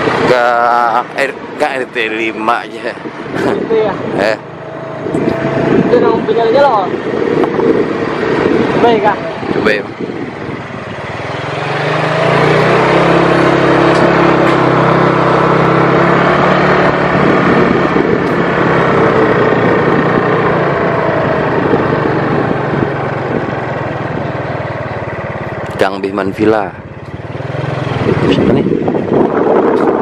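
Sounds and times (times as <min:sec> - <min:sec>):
road and wind noise: 0:00.0 - 0:30.0
small vehicle engine running: 0:00.0 - 0:30.0.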